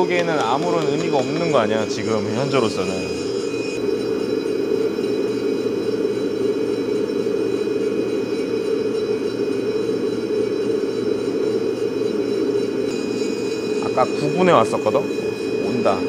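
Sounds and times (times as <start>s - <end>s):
coffee beans churning: 0.0s - 16.0s
hot-air blower running: 0.0s - 16.0s.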